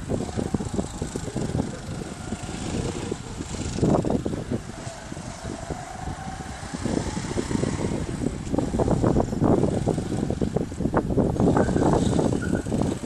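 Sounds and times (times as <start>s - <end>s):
go-kart engines running: 0.0s - 13.0s.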